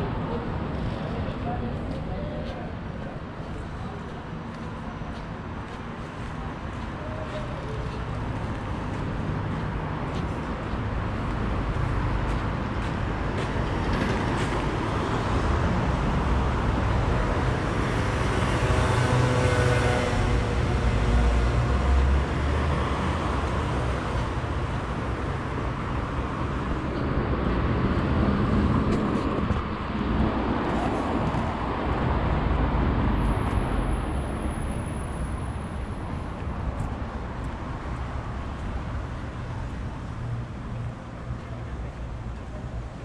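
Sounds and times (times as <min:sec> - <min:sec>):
road traffic rumbling: 0:00.0 - 0:43.0.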